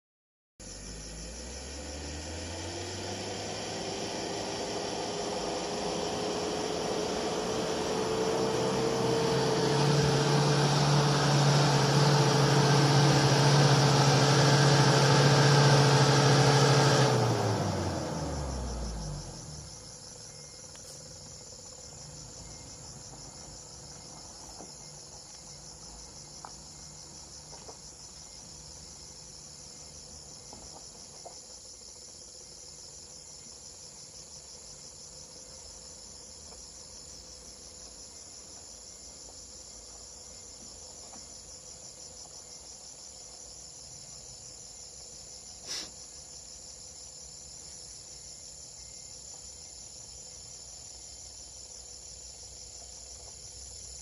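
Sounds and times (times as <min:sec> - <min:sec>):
car engine labouring uphill: 0:00.6 - 0:45.6, 0:49.1 - 0:54.0
insects chirring: 0:00.6 - 0:54.0.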